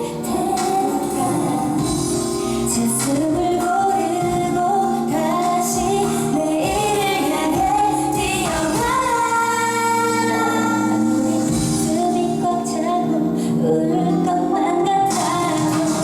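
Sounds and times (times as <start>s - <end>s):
woman singing pop song: 0.0s - 16.0s.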